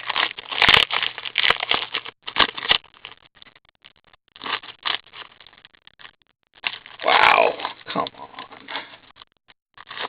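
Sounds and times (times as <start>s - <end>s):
cards and wrappers rustling: 0.0s - 10.0s.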